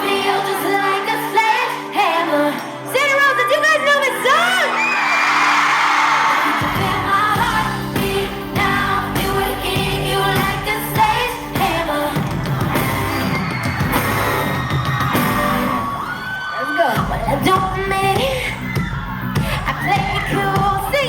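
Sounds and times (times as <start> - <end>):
live pop song: 0.0 - 5.0, 5.6 - 21.0
crowd screaming: 0.0 - 10.4, 11.2 - 21.0.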